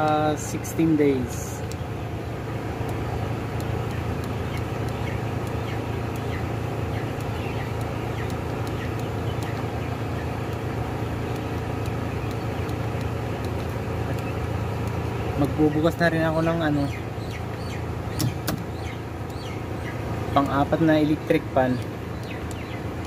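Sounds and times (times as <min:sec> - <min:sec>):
chickens chirping: 0:00.0 - 0:23.0
exhaust fans droning: 0:00.0 - 0:23.0
faint regular clicks: 0:00.0 - 0:23.0.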